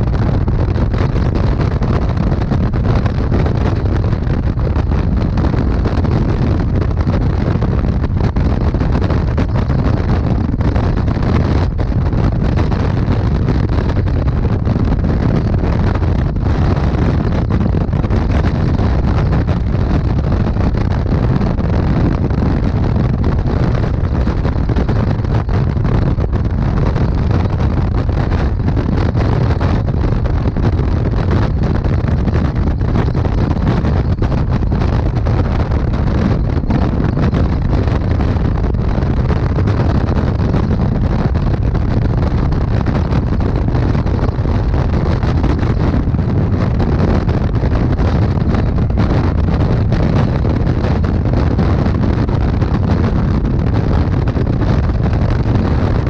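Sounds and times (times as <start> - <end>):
motorcycle engine and road noise: 0.0 - 56.0
wind buffeting microphone: 0.0 - 56.0.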